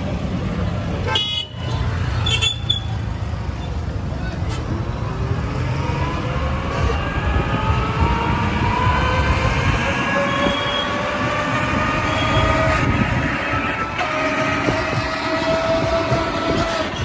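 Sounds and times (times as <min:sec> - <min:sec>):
road rumble: 0:00.0 - 0:17.0.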